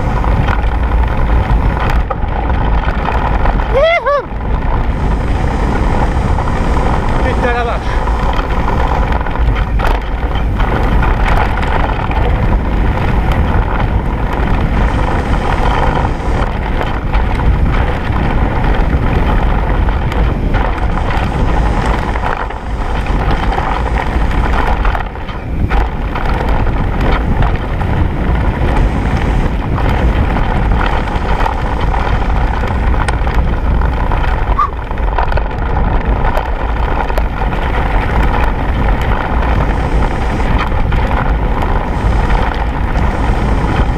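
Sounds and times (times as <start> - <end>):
bike rattles and knocks: 0.0 - 43.9
tyres rumbling on gravel: 0.0 - 43.9
wind on microphone: 0.0 - 43.9.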